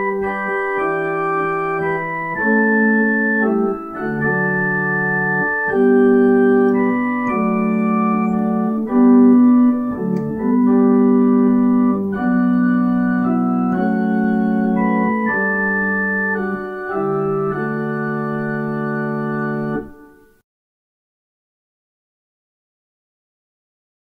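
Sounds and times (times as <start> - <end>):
organ playing slow chords: 0.0 - 20.4.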